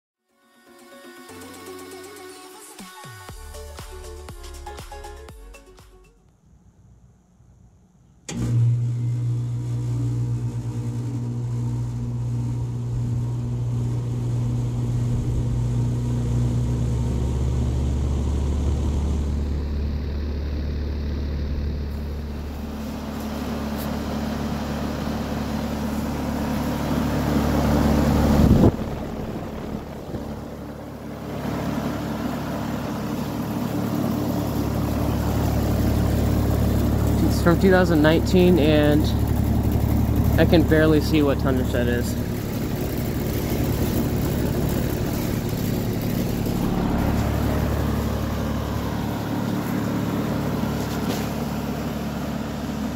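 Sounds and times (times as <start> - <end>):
outdoor fan rushing: 6.8 - 52.9
heat pump compressor humming: 8.3 - 52.9.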